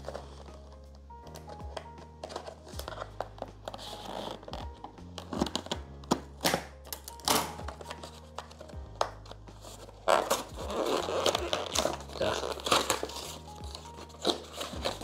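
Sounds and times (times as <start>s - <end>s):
background music: 0.0s - 15.0s
packaging rustling and crinkling: 0.0s - 15.0s.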